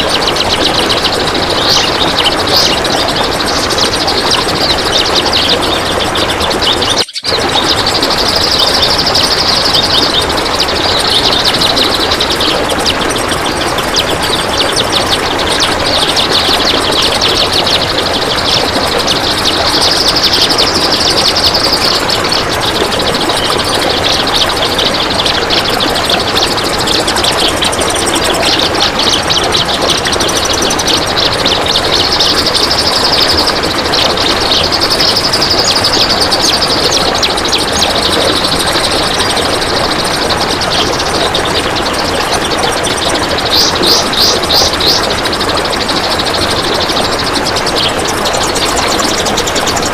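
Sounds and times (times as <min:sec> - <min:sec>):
bird fast rattling chatter: 0:00.0 - 0:49.9.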